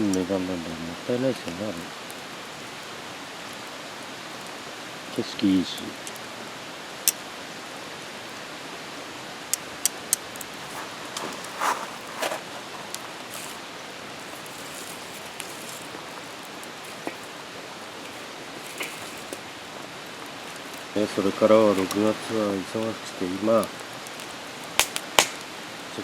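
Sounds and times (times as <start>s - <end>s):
campfire crackling and popping: 0.0s - 26.0s
fire hissing: 0.0s - 26.0s.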